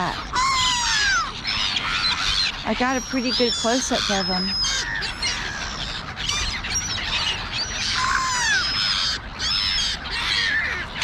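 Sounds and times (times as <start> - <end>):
gulls and crows calling: 0.0 - 11.0.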